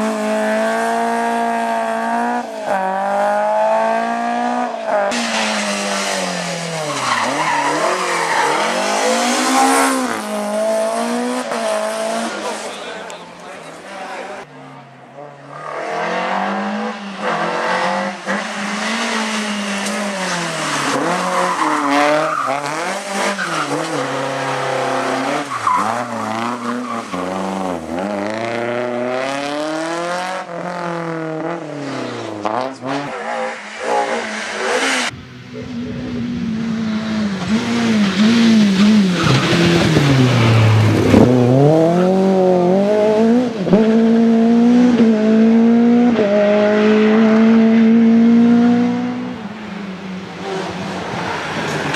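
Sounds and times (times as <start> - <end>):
car engine revving hard: 0.0 - 12.9, 15.5 - 35.1, 35.7 - 49.5.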